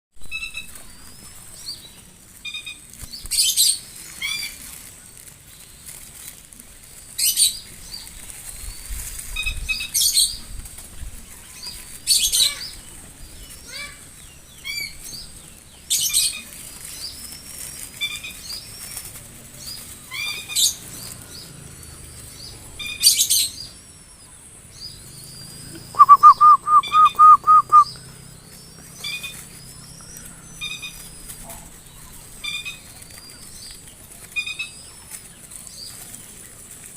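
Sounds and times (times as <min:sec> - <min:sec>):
birds chirping: 0:00.2 - 0:36.9.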